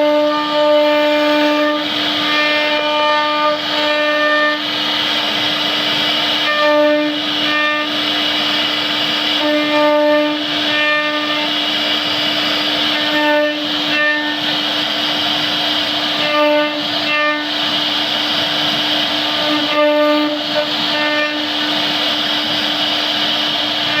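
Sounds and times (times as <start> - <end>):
router spindle whine: 0.0 - 24.0.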